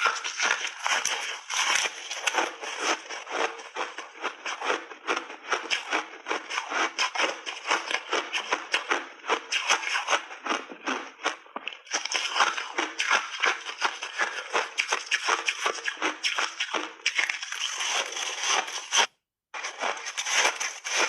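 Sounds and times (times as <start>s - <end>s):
chewing crunchy ice: 0.0s - 21.0s.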